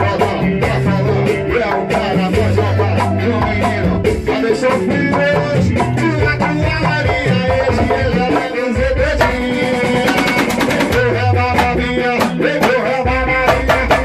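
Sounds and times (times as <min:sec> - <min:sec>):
drums and percussion: 0:00.0 - 0:14.0
live band playing instrumental: 0:00.0 - 0:14.0.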